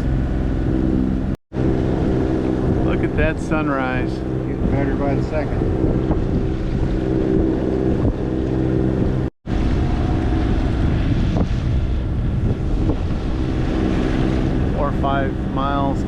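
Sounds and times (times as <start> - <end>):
diesel engine running: 0.0 - 16.0
water rushing along hull: 0.0 - 16.0
wind on microphone: 0.0 - 16.0.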